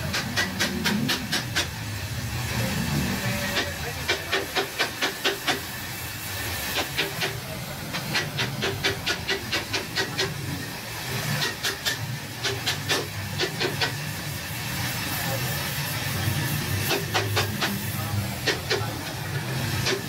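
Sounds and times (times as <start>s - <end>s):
gas welding torch hissing: 0.0s - 20.0s.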